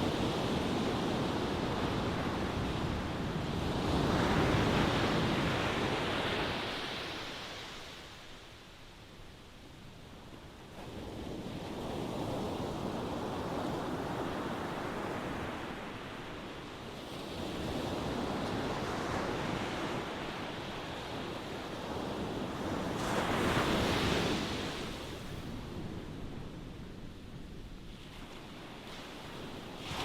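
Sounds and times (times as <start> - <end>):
ocean waves breaking on shore: 0.0 - 9.1, 10.6 - 30.0.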